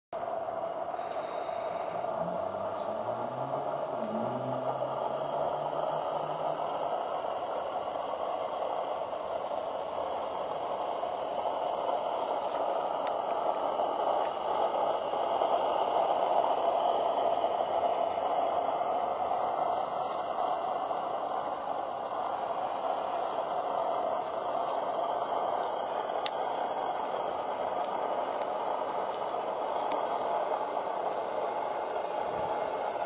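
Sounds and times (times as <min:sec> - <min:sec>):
steam locomotive hissing: 0:00.2 - 0:33.0.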